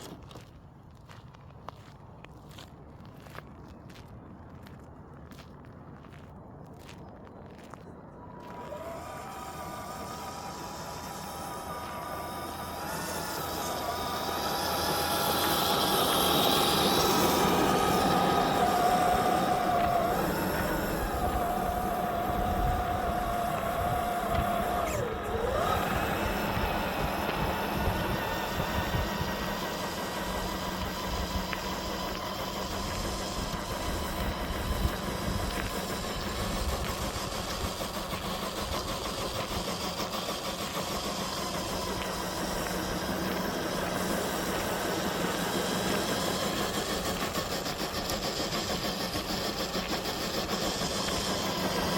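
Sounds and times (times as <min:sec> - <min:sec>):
steady low rumble: 0:00.0 - 0:51.9
toy car motor and gears whining: 0:08.3 - 0:51.9.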